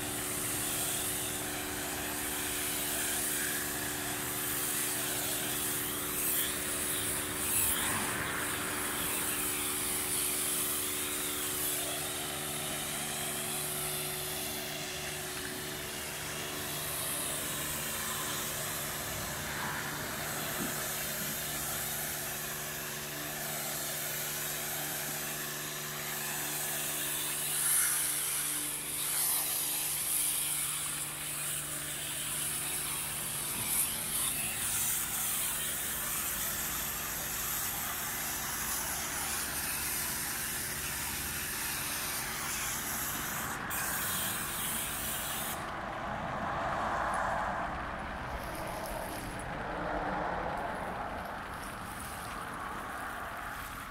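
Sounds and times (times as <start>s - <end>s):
pressure washer spray hiss: 0.0s - 45.7s, 48.3s - 49.5s, 50.5s - 53.9s.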